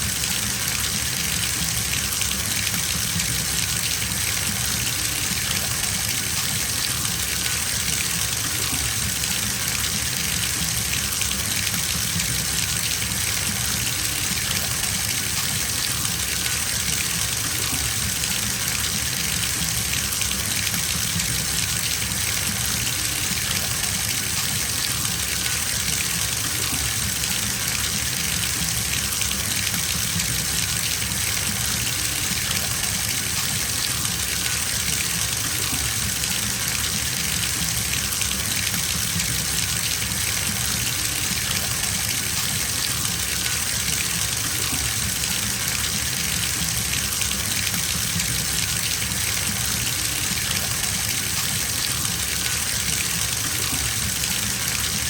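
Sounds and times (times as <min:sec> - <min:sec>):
water gushing into bathtub: 0:00.0 - 0:55.0.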